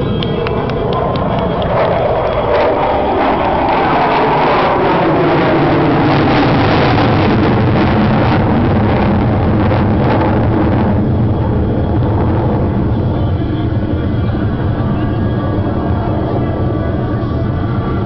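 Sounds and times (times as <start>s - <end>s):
jet roaring overhead: 0.0s - 18.0s.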